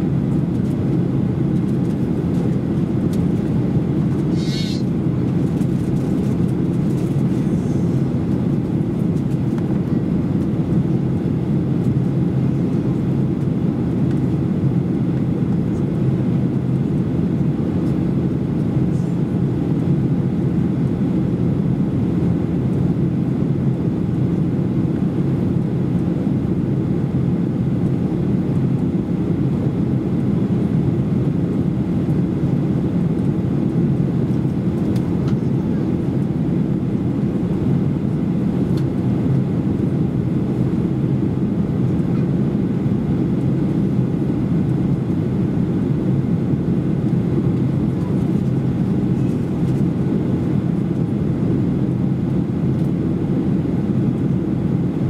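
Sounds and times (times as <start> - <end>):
airplane cabin engine drone: 0.0 - 55.0.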